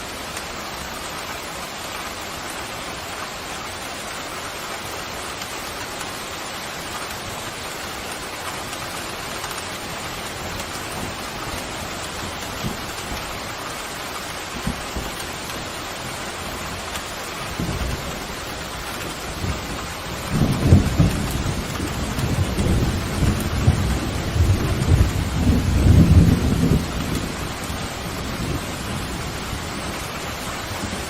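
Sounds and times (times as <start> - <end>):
pouring rain: 0.0 - 31.0.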